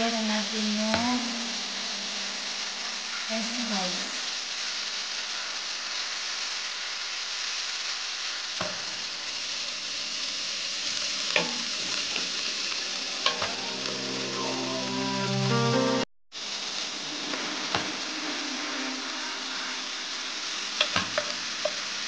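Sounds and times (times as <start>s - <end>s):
chicken sizzling in hot oil: 0.0s - 15.4s, 16.3s - 22.0s.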